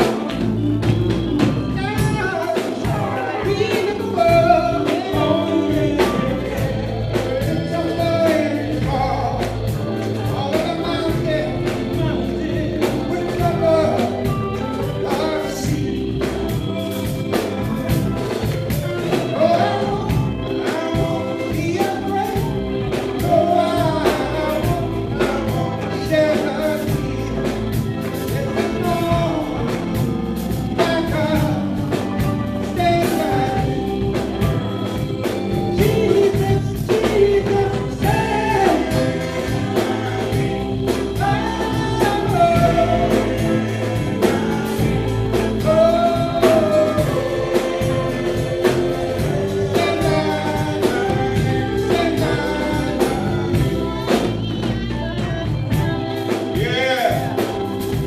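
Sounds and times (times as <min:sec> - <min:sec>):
gospel group singing with band: 0:00.0 - 0:58.0.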